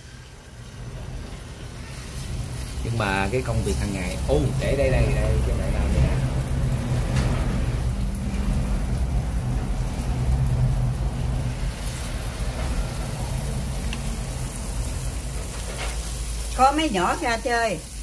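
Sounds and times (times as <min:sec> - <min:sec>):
fritters sizzling in hot oil: 0:00.0 - 0:18.0.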